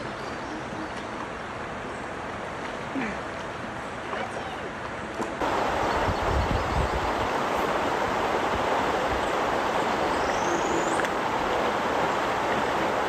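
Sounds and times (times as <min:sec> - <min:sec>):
creek water rushing: 0:00.2 - 0:13.0.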